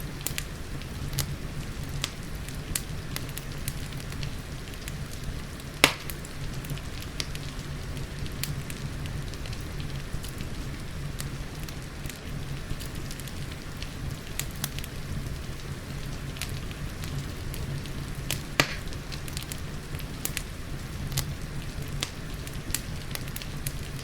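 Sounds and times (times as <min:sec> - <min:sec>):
rain hissing: 0:00.0 - 0:24.0
wood fire crackling and popping: 0:00.0 - 0:24.0.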